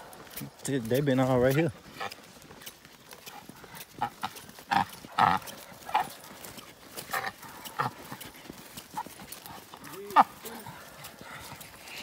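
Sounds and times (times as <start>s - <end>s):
dog panting: 0.0s - 12.0s
footsteps on dirt trail: 0.0s - 12.0s.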